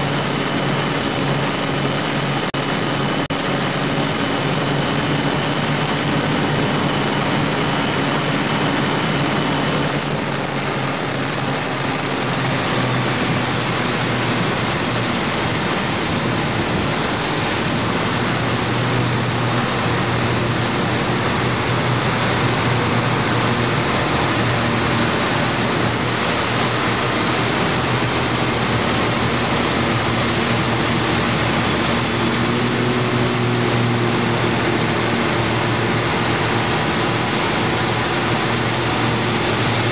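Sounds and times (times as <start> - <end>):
powerboat diesel engines: 0.0 - 39.9
wind and water rushing: 0.0 - 39.9.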